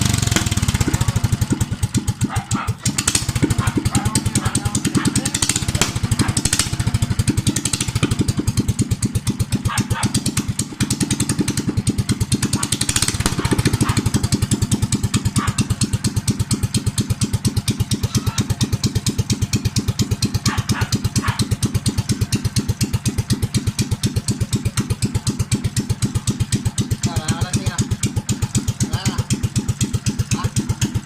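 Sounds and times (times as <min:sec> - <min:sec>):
small engine running steadily: 0:00.0 - 0:31.0.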